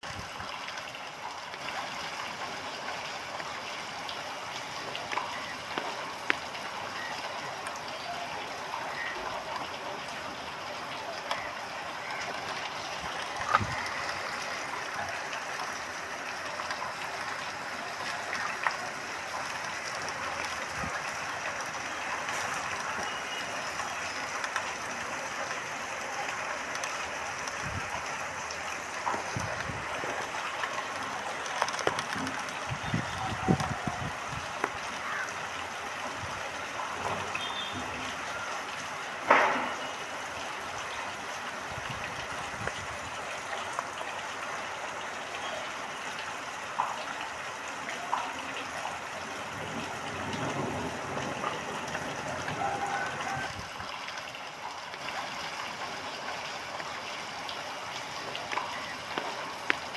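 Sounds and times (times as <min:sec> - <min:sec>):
heavy rain falling: 0:00.0 - 0:59.9
raindrops tapping: 0:00.0 - 0:59.9.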